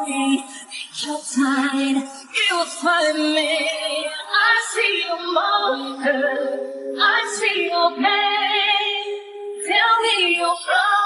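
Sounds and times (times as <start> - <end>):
woman singing song: 0.0 - 11.0.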